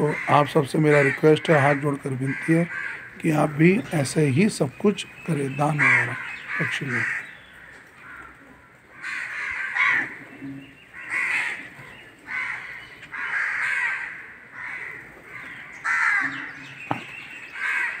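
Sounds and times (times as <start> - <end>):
crows cawing: 0.0 - 18.0.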